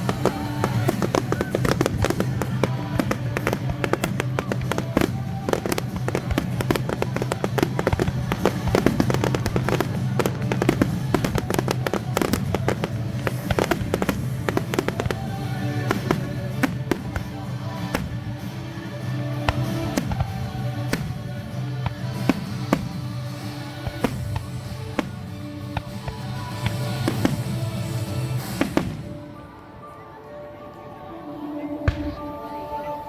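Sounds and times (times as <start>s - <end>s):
fireworks bangs and crackles: 0.0s - 29.8s, 31.8s - 32.8s
music playing: 0.0s - 33.0s.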